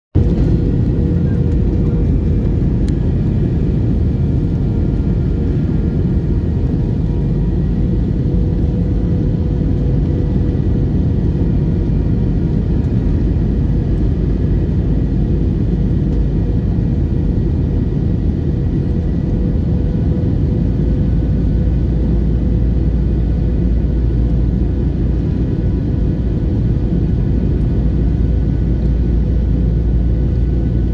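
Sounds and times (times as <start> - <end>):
airliner cabin engine rumble: 0.1 - 30.9.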